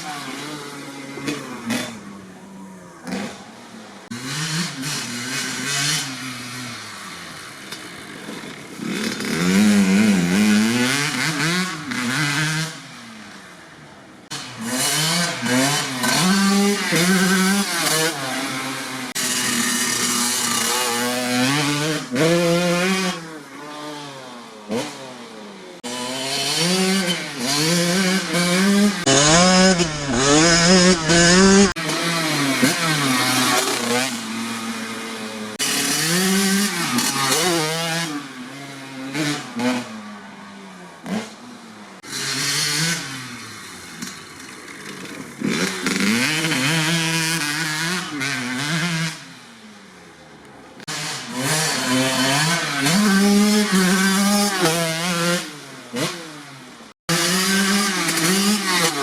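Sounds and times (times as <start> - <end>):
two-stroke engine revving: 0.0 - 13.5, 14.2 - 49.8, 50.8 - 59.0.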